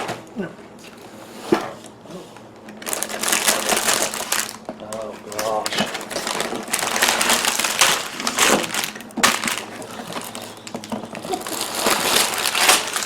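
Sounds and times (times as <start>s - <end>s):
plastic and cardboard crinkling: 2.4s - 13.0s.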